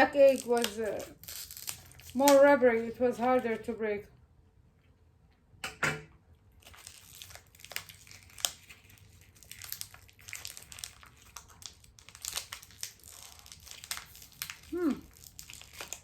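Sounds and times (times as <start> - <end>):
plastic packaging crinkling: 0.0 - 3.4, 6.6 - 16.0.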